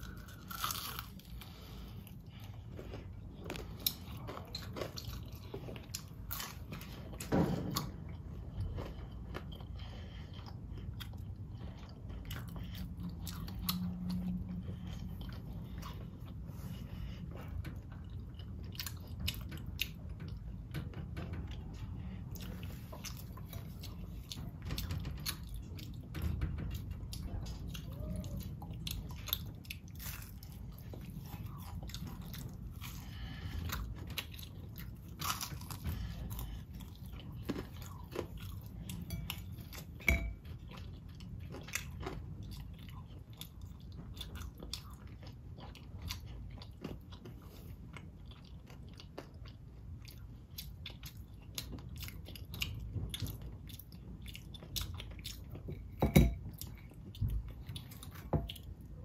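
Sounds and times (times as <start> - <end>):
child chewing crunchy food: 0.0 - 59.0.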